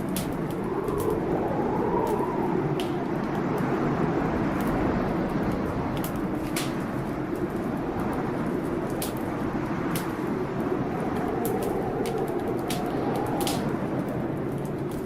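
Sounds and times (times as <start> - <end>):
blizzard wind blowing: 0.0 - 15.0
wood fire crackling: 0.0 - 15.0.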